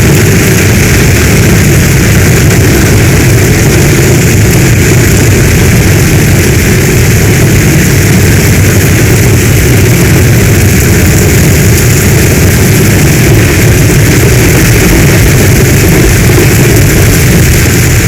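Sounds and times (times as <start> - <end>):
deep low rumble: 0.0 - 18.0
heavy rain: 0.0 - 18.0.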